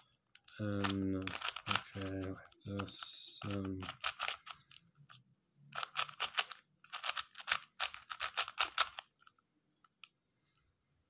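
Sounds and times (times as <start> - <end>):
plastic clicking of cube turns: 0.2 - 10.2.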